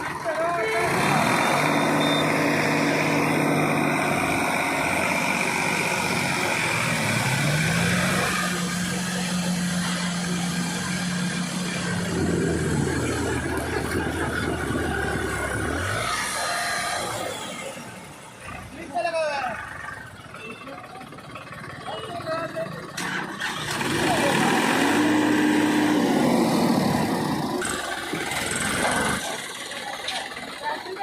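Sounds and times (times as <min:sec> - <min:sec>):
tractor diesel engine revving: 0:00.0 - 0:31.0.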